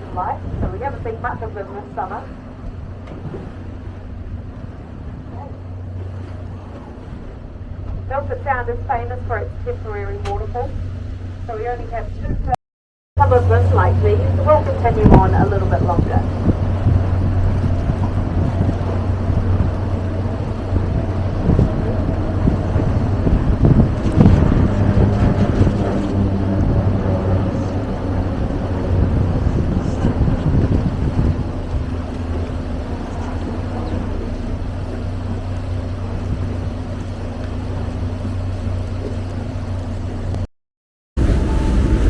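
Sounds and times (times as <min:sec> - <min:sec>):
boat engine droning: 0:00.0 - 0:12.6, 0:13.2 - 0:40.5, 0:41.2 - 0:42.0
water noise: 0:00.0 - 0:12.6, 0:13.2 - 0:40.5, 0:41.2 - 0:42.0
wind noise on microphone: 0:00.0 - 0:12.6, 0:13.2 - 0:40.5, 0:41.2 - 0:42.0.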